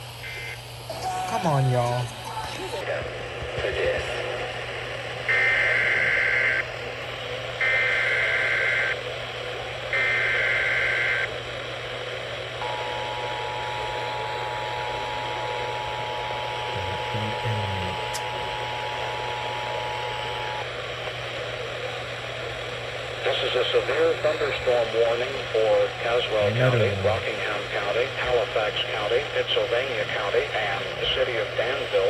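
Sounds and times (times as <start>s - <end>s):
radio hiss and low hum: 0.0s - 32.0s.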